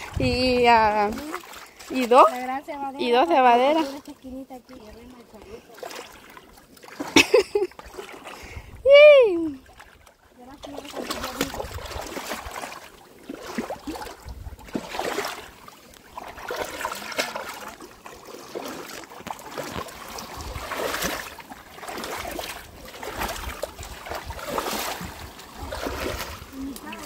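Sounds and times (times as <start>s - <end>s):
water sloshing around wading legs: 0.0s - 27.0s.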